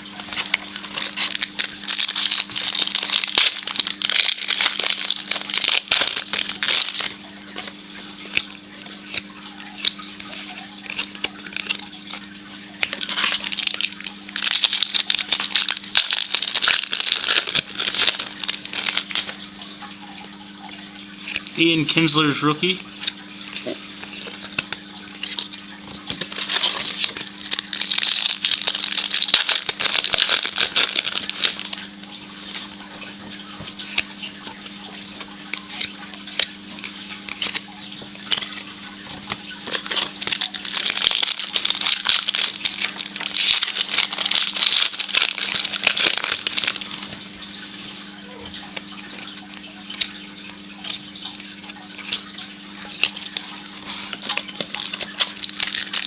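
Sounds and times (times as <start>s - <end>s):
cards rustling: 0.0s - 20.4s, 21.2s - 56.0s
wrappers crinkling: 0.0s - 56.0s.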